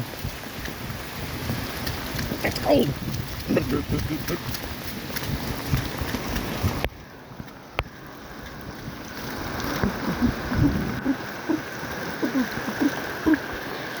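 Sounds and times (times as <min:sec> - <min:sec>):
rushing floodwater: 0:00.0 - 0:14.0
water gurgling and splashing: 0:00.0 - 0:14.0.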